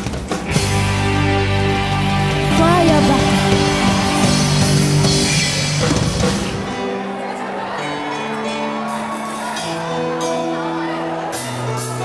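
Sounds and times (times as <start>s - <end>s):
live rock band playing loudly: 0.0s - 7.2s, 7.8s - 12.0s.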